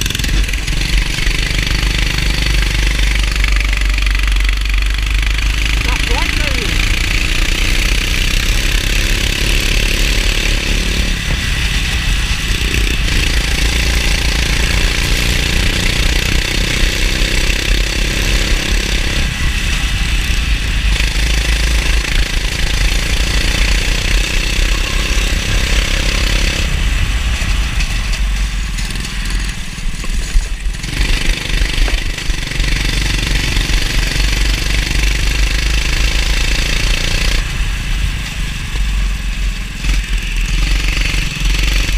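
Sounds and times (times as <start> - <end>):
go-kart engine revving: 0.0 - 41.9.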